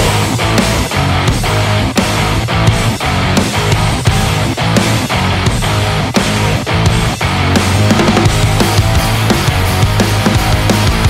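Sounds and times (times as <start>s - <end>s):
driving drum beat: 0.0s - 11.0s
heavy rock music: 0.0s - 11.0s.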